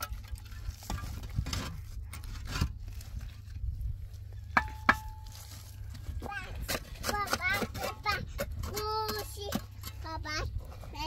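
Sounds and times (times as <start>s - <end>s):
concrete blocks scraping and knocking: 0.0s - 11.0s
low steady rumble: 0.0s - 11.0s.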